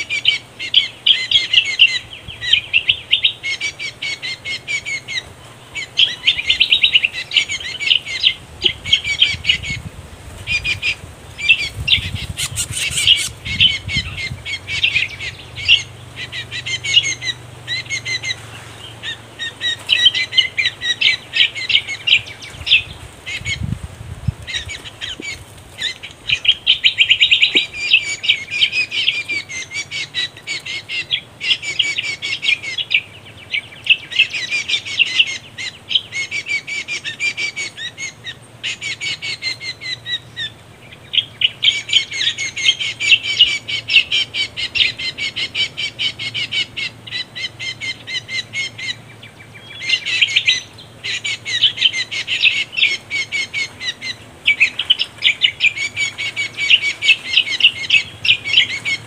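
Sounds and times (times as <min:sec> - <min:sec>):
recorded birdcall chattering: 0:00.0 - 0:59.0.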